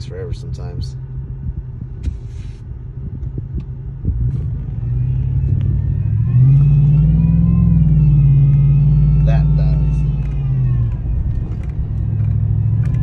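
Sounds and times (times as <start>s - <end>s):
truck engine rumbling and revving: 0.0s - 13.0s.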